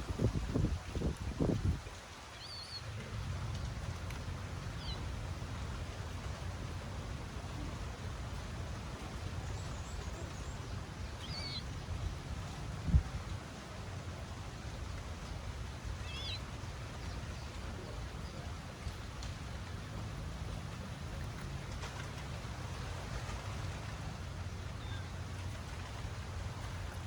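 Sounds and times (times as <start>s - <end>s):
outdoor background rumble and hiss: 0.0s - 27.0s.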